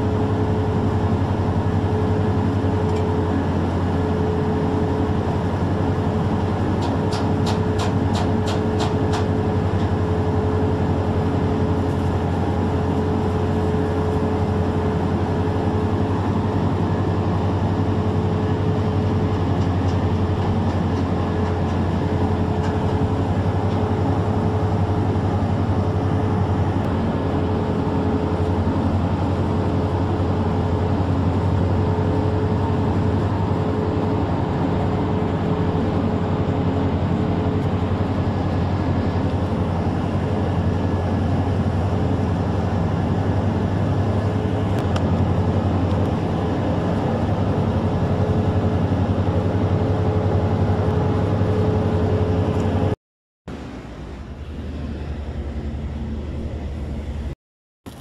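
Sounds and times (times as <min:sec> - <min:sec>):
ship machinery droning: 0:00.0 - 0:58.0.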